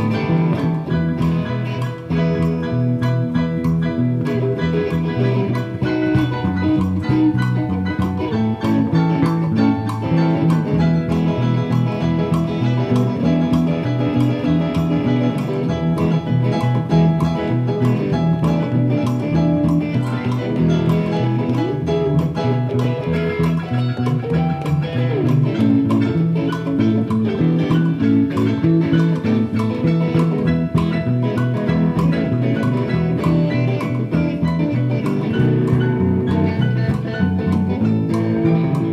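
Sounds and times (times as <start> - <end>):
drums: 0.0 - 38.9
guitar: 0.0 - 38.9
live band playing: 0.0 - 38.9.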